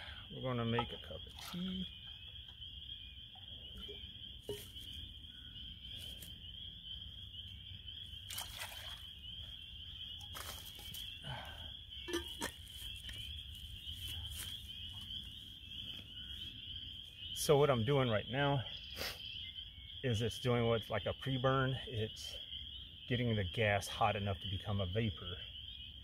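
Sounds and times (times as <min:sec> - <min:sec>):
frogs chorus: 0:00.0 - 0:26.0.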